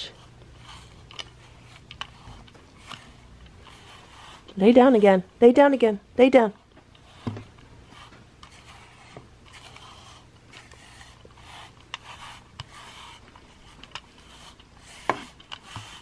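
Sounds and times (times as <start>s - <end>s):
grooming brush scraping fur: 0.0s - 5.2s, 6.9s - 16.0s.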